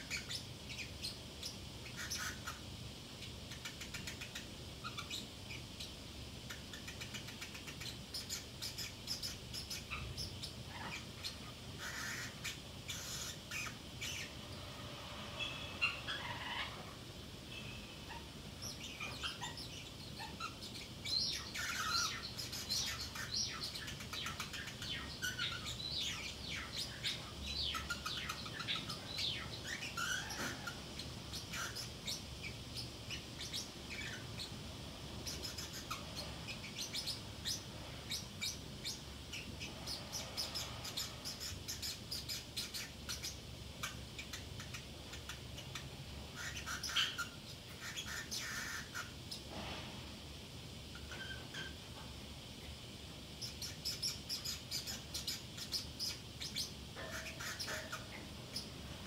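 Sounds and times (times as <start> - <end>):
parrotlet chirping and clicking: 0.0 - 14.3, 18.1 - 34.6, 35.2 - 49.4, 50.9 - 52.8, 53.4 - 58.8
parrotlet gliding calls: 0.0 - 49.6, 50.8 - 52.0, 53.3 - 59.0.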